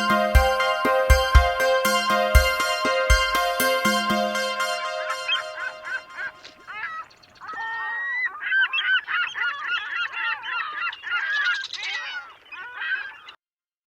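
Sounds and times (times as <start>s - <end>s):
geese honking: 0.0s - 13.4s.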